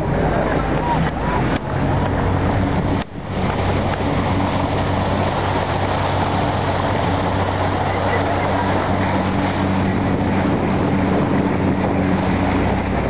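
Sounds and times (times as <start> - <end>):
motorboat engine humming: 0.0 - 13.0
water noise: 0.0 - 13.0
wind: 0.0 - 13.0.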